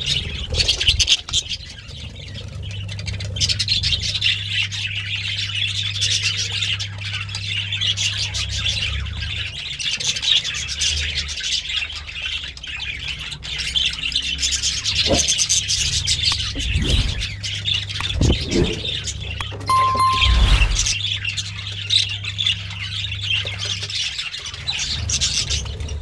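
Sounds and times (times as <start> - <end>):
budgerigars chirping and chattering: 0.0 - 19.4, 22.1 - 26.0.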